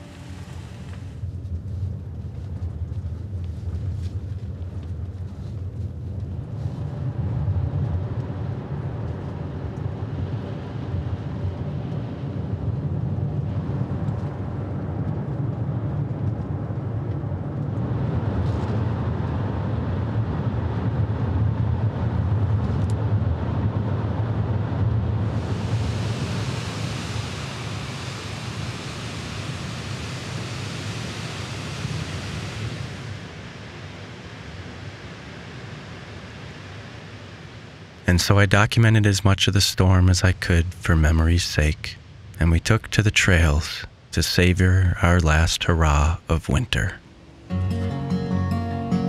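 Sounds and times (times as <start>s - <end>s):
car road and engine rumble: 0.0s - 47.5s.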